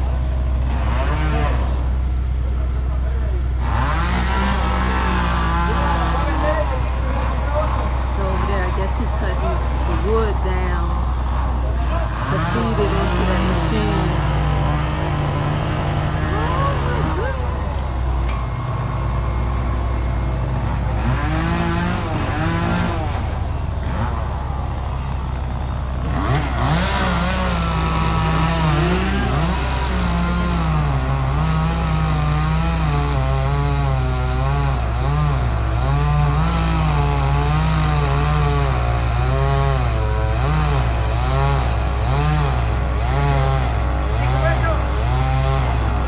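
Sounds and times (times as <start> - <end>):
chainsaw cutting: 0.0 - 2.4, 3.6 - 46.0.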